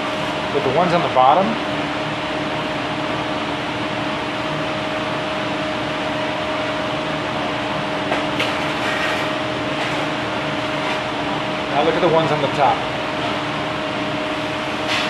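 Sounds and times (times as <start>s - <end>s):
kitchen fans whirring: 0.0s - 15.0s.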